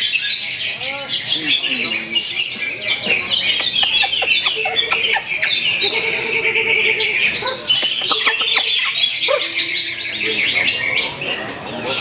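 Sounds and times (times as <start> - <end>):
bird singing chattering song: 0.0 - 12.0.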